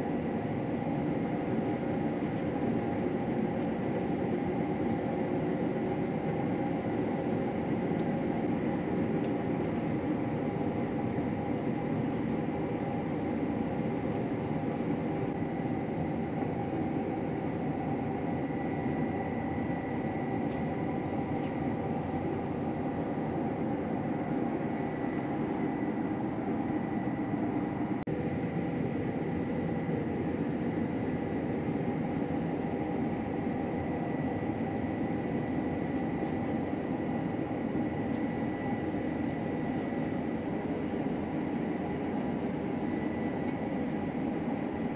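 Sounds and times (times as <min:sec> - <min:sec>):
combine harvester drone: 0:00.0 - 0:44.9.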